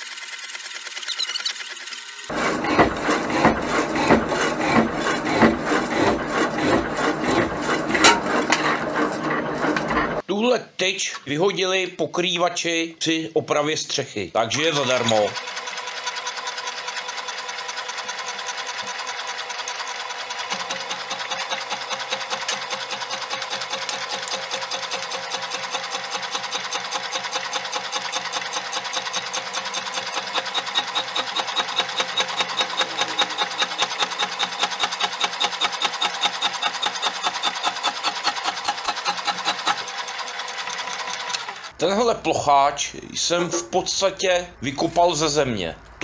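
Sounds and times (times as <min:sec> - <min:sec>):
power hacksaw cutting steel: 0:00.0 - 0:10.2, 0:14.5 - 0:41.8.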